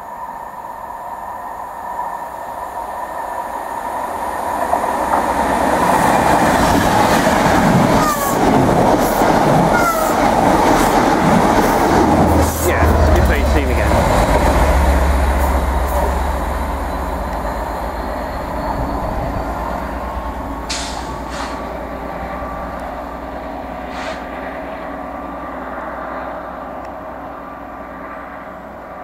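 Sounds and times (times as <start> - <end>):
diesel locomotive engine drone: 0.0 - 29.0
train wheel and rail noise: 0.0 - 29.0.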